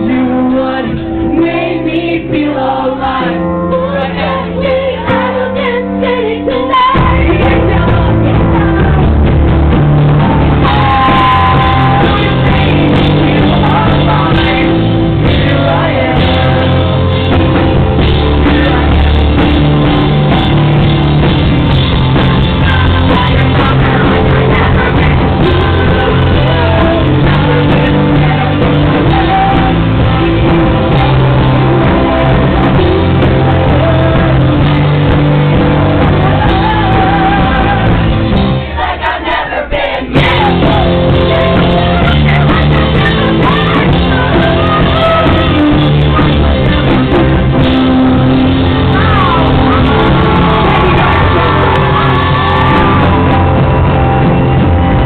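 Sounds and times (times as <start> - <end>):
man and woman singing: 0.0 - 9.3, 10.5 - 20.1, 22.1 - 53.4
live rock band playing: 0.0 - 55.0.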